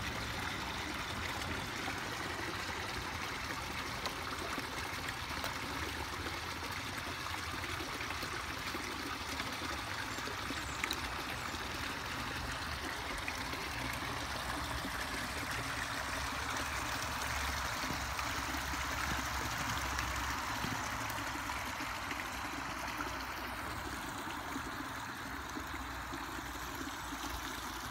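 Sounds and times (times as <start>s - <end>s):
water trickling into pond: 0.0s - 27.9s.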